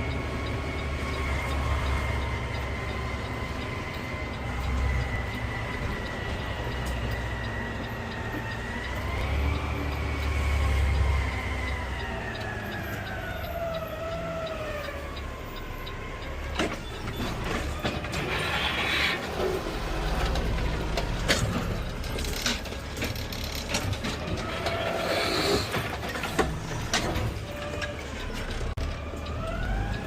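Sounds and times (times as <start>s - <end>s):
garbage truck engine whine: 0.0s - 30.0s.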